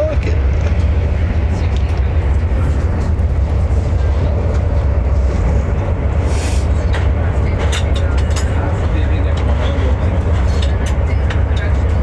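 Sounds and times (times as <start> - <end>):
passenger train rumble: 0.0 - 12.0.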